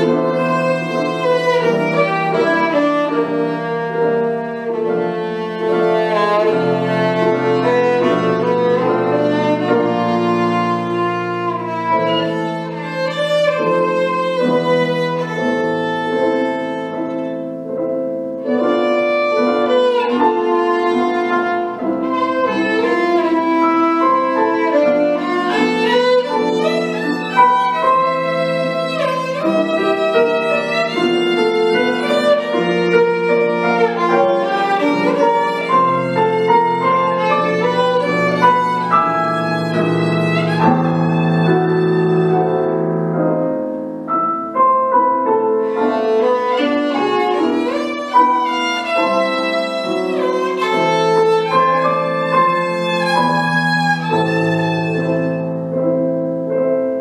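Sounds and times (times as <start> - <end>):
solo violin melody: 0.0 - 56.6
piano accompaniment: 0.0 - 57.0.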